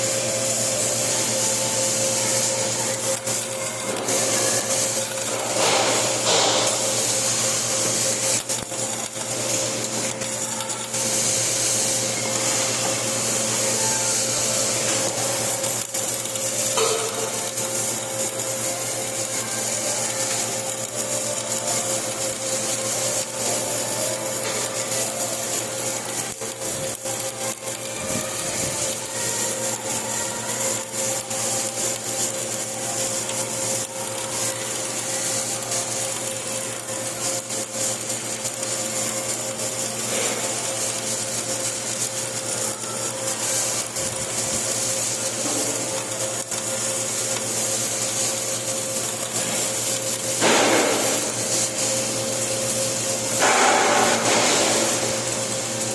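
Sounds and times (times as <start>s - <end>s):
electrical hum: 0.0s - 55.9s
welding arc crackling: 0.0s - 55.9s.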